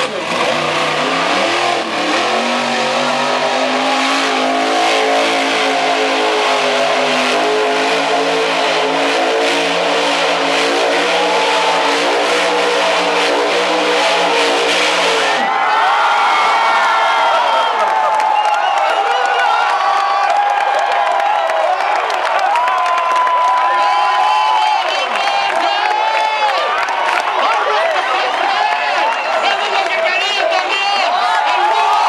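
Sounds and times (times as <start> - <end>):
monster truck engine revving: 0.0 - 32.0.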